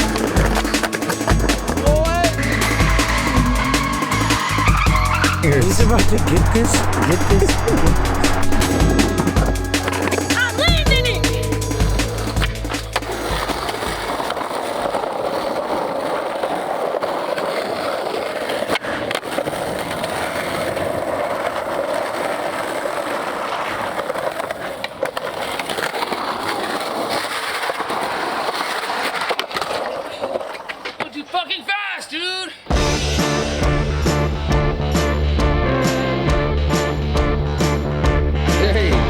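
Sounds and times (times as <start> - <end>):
skateboard wheels rolling on pavement: 0.0 - 39.0.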